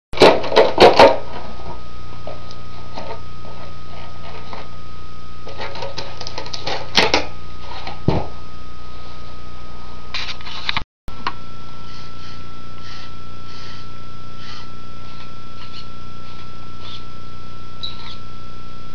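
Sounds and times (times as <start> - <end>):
steady hum: 0.2 - 18.9
thin high whine: 0.2 - 18.9.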